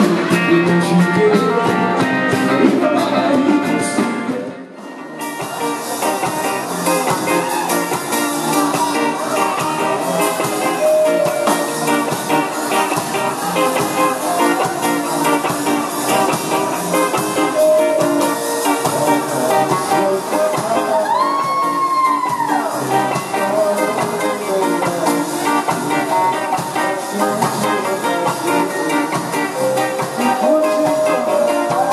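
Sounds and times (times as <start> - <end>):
held guitar lead notes: 0.0 - 21.8, 22.7 - 31.9
band playing instrumental: 0.0 - 31.9.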